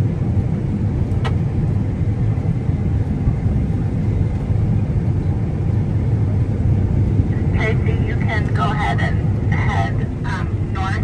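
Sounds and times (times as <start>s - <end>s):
combine harvester rumbling: 0.0s - 11.0s.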